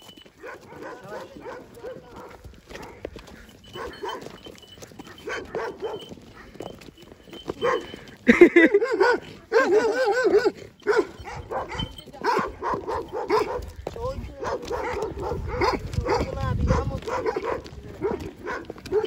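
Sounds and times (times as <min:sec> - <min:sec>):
dogs barking: 0:00.3 - 0:06.7, 0:07.4 - 0:19.0.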